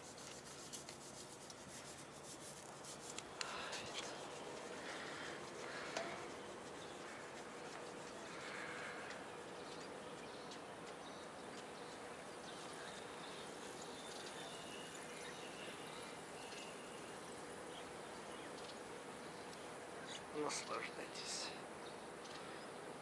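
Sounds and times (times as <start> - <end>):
low steady hum: 0.0 - 23.0
steady hiss: 0.0 - 23.0.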